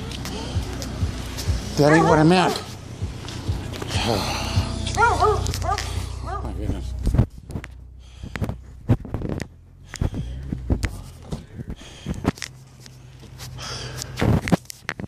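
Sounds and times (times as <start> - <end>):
low rumble: 0.0 - 12.7
hurried footsteps on concrete: 0.0 - 14.4.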